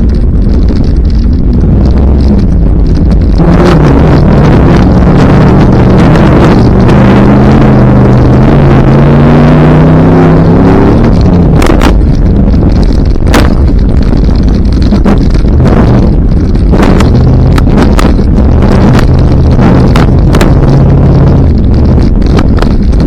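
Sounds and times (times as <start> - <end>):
sharp cracks and bangs: 0.0 - 8.4, 10.2 - 23.0
truck engine running hard: 0.0 - 23.0.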